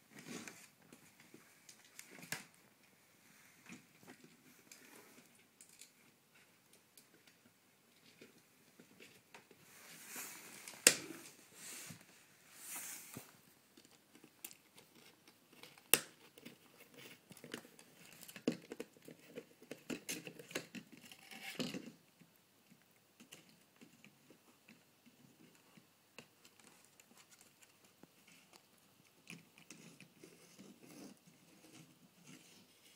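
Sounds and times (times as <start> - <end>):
faint scratching and rustling: 0.0 - 22.0, 23.2 - 32.9.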